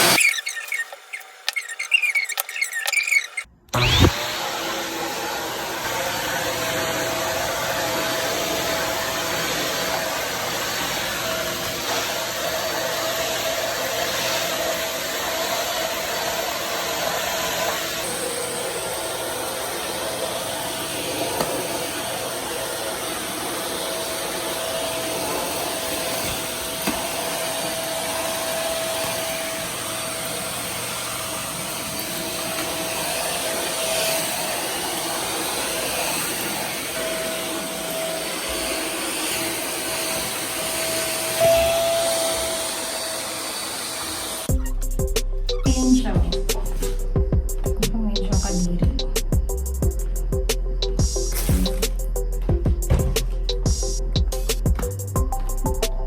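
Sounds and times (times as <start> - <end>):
handheld vacuum cleaner whine: 0.0 - 44.7, 50.7 - 55.8.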